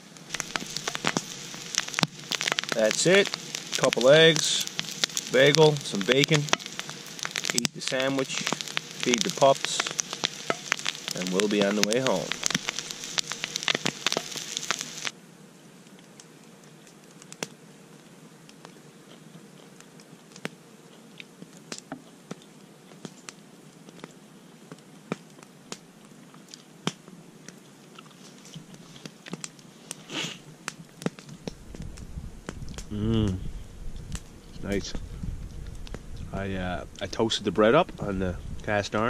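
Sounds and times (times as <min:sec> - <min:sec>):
campfire crackling and popping: 0:00.0 - 0:15.2, 0:15.8 - 0:39.0
eggs and bacon sizzling in pan: 0:00.0 - 0:15.2, 0:16.0 - 0:39.0.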